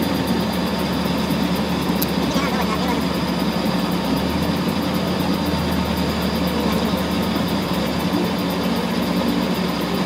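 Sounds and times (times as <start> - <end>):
lathe motor humming: 0.0 - 10.0.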